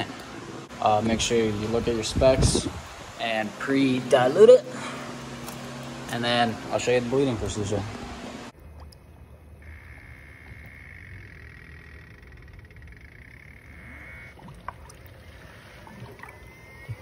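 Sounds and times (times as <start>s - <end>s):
electric pump whining: 0.0s - 8.6s, 9.4s - 17.0s.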